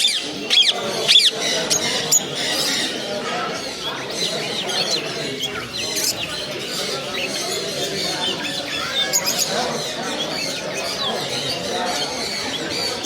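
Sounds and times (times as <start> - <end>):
caged birds chirping and squawking: 0.0 - 13.0
murmur of background chatter: 0.0 - 13.0.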